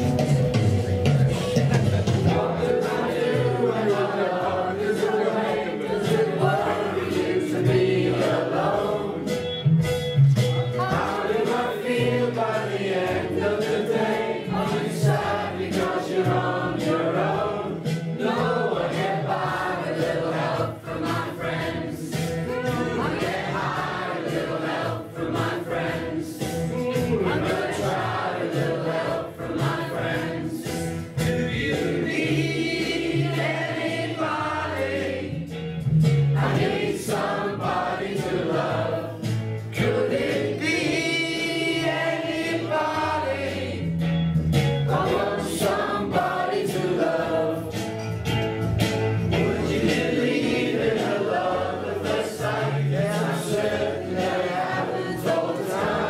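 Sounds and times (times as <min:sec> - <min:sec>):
group of people singing: 0:00.0 - 0:09.8, 0:10.6 - 0:44.2, 0:44.8 - 0:48.3, 0:49.2 - 0:56.0.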